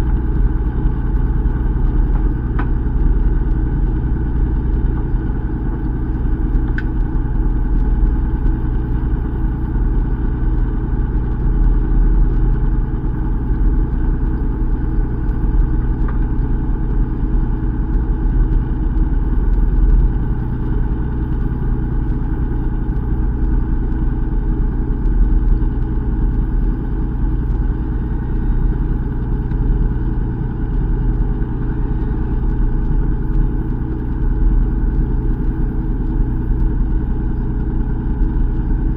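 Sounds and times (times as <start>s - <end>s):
boat engine humming: 0.0s - 38.9s.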